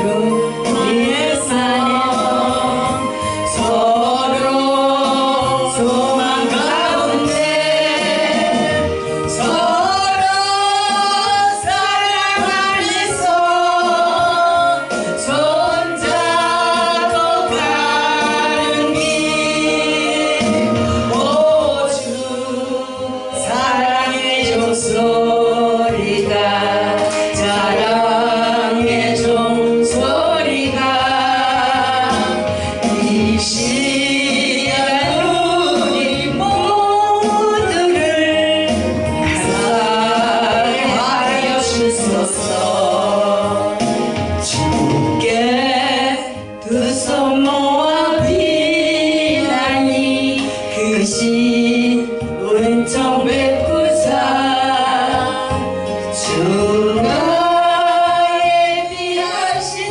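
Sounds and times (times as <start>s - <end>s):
instrumental accompaniment: 0.0s - 59.9s
two singers singing a duet: 0.0s - 59.9s.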